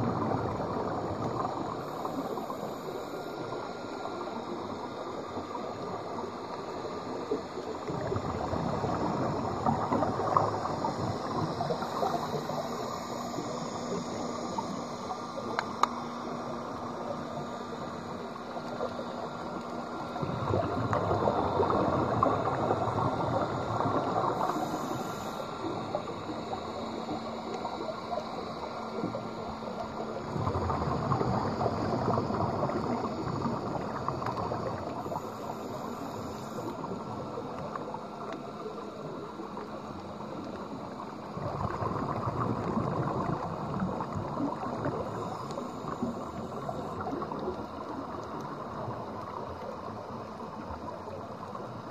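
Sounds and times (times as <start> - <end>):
regulator bubbles gurgling: 0.0 - 51.9
underwater background hiss: 0.0 - 51.9.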